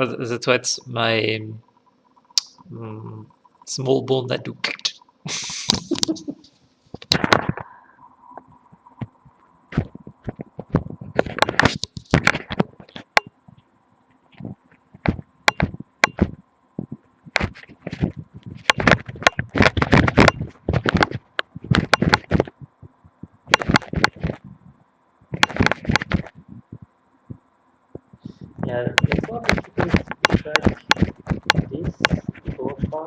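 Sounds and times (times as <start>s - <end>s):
faint electronic hum: 0.0s - 33.0s
microphone rubbing against skin: 4.6s - 33.0s.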